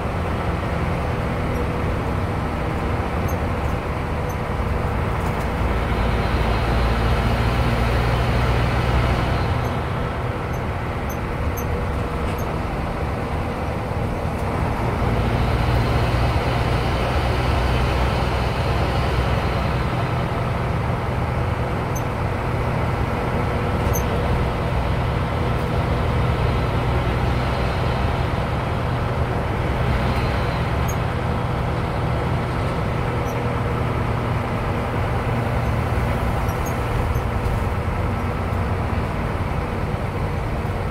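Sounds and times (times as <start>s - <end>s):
bus engine and road noise: 0.0s - 40.9s.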